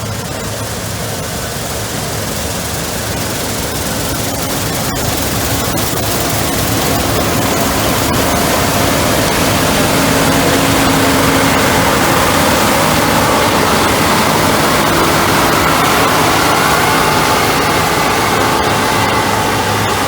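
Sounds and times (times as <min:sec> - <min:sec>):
heavy farm machinery running: 0:00.0 - 0:20.0.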